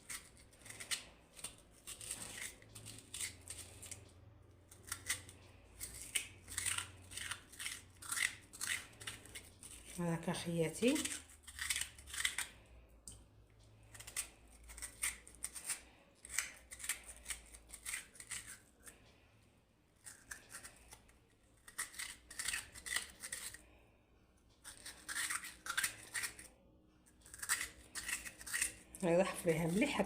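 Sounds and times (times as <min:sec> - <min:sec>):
scraping turnip flesh: 0:00.0 - 0:13.2, 0:13.8 - 0:19.3, 0:20.0 - 0:23.8, 0:24.6 - 0:26.6, 0:27.2 - 0:30.0.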